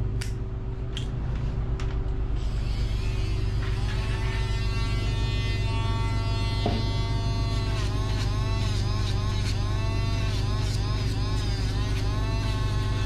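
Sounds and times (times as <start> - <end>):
steady low hum: 0.0 - 13.0
dog nail grinder whining: 2.4 - 13.0.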